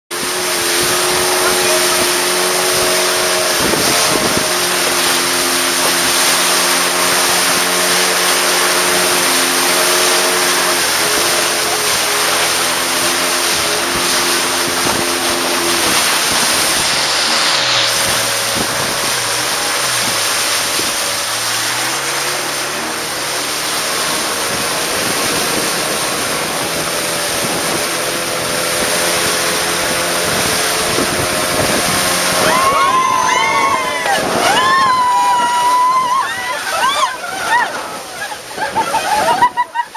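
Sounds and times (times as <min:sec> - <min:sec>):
boat engine drone: 0:00.1 - 0:39.9
water rushing along hull: 0:00.1 - 0:39.9.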